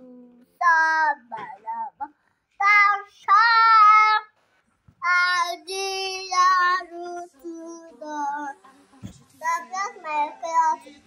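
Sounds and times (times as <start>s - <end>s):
young girl singing: 0.0s - 4.3s, 5.0s - 11.0s.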